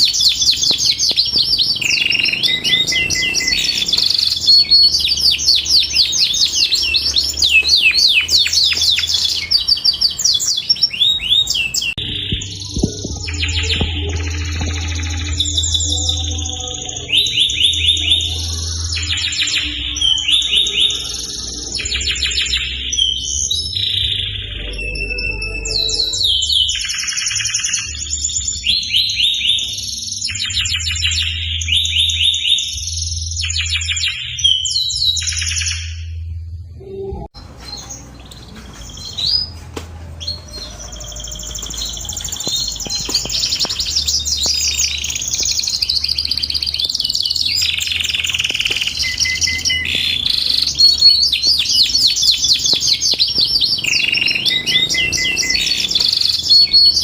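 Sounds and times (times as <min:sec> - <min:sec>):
canary singing trills: 0:00.0 - 0:36.2, 0:36.8 - 0:57.0.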